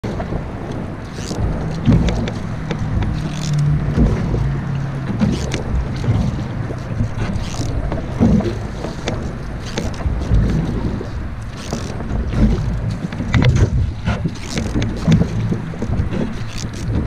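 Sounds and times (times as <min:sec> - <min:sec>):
paddle strokes in water: 0:00.0 - 0:17.0
wind on microphone: 0:00.0 - 0:17.0.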